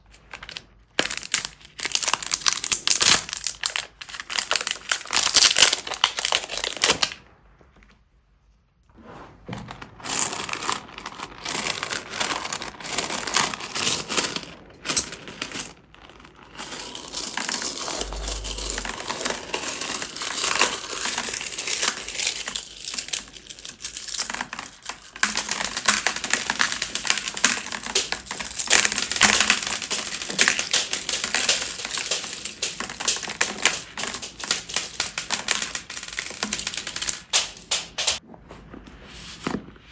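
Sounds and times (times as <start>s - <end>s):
slime crinkling and crackling: 0.0s - 7.2s, 9.0s - 38.2s.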